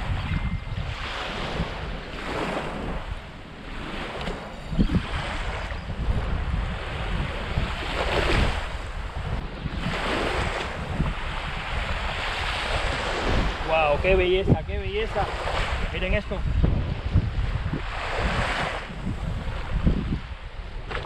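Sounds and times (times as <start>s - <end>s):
wind buffeting microphone: 0.0s - 21.0s
waves washing onto beach: 0.8s - 21.0s.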